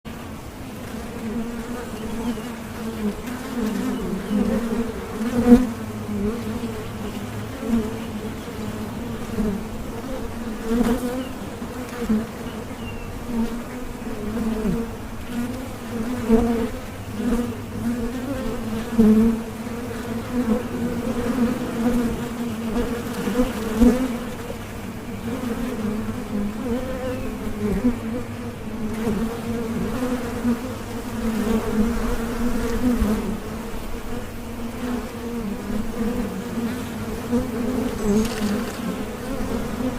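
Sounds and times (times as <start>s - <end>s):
bees buzzing: 0.1s - 39.9s.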